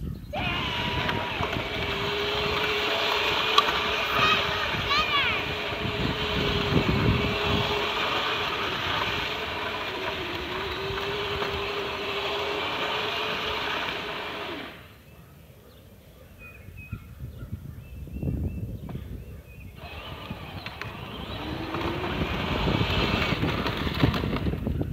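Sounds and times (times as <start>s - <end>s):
electric motors whining: 0.0s - 15.0s, 18.6s - 24.9s
plastic wheels grinding on asphalt: 0.3s - 15.0s, 18.3s - 24.9s.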